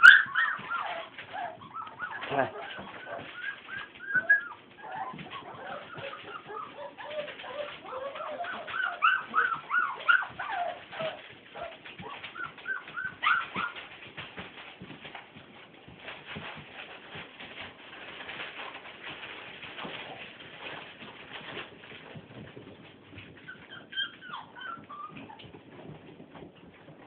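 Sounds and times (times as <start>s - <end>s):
puppies whimpering and squeaking: 0.0s - 27.0s.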